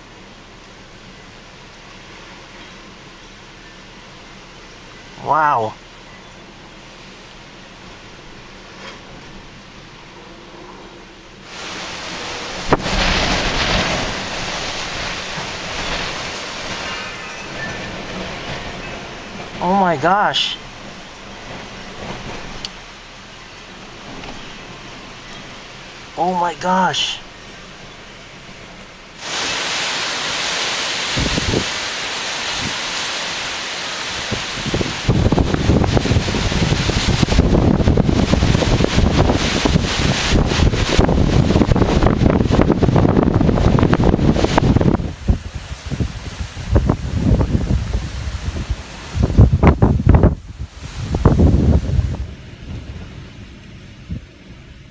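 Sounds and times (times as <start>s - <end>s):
rain rushing over microphone: 0.0s - 54.9s
gusty storm wind: 7.6s - 54.9s.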